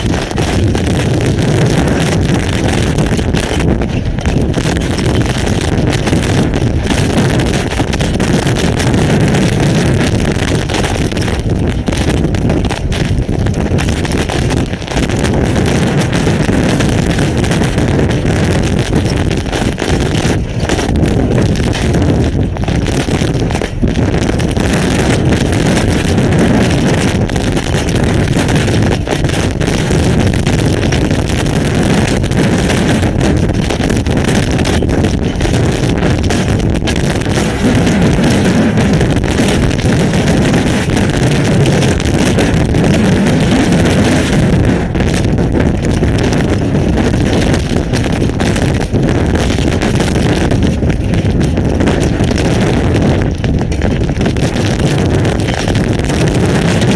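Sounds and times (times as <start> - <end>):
hail and rain: 0.0 - 56.9
strong wind on microphone: 0.0 - 56.9.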